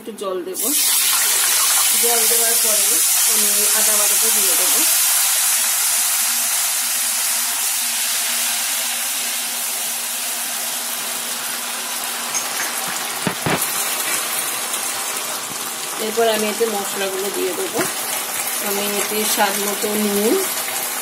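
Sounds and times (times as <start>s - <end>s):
oil sizzling in a wok: 0.6s - 21.0s.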